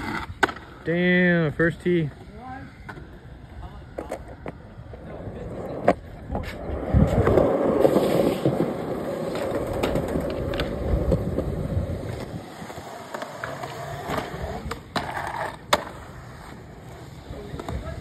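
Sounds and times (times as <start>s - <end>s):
skateboard wheels rolling on concrete: 0.0s - 18.0s.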